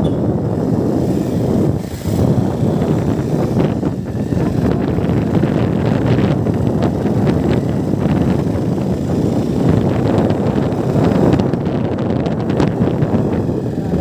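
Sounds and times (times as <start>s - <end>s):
motorcycle running noise: 0.0s - 14.0s
wind buffeting microphone: 0.0s - 14.0s.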